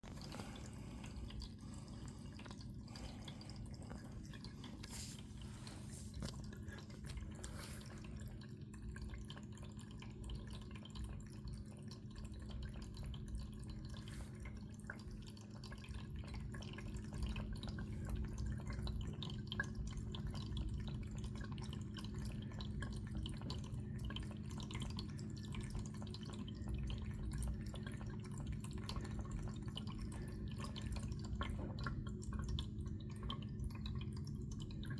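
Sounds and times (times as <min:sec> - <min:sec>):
cat lapping water: 0:00.0 - 0:34.9
steady low hum: 0:00.0 - 0:34.9.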